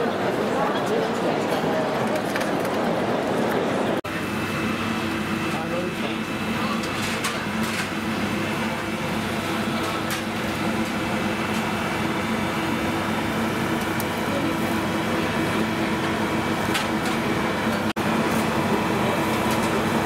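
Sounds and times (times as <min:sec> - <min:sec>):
ventilation rushing hum: 0:00.0 - 0:20.0.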